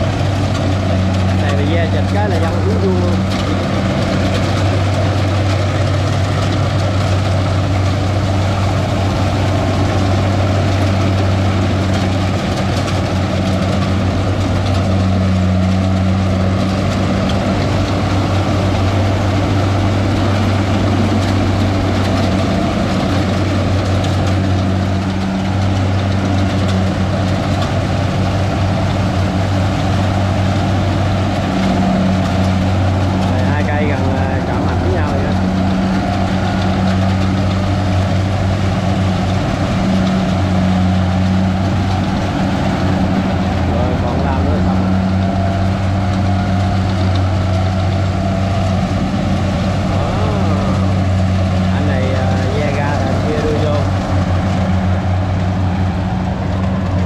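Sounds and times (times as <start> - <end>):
combine harvester engine humming: 0.0 - 57.0
dense mechanical noise: 0.0 - 57.0.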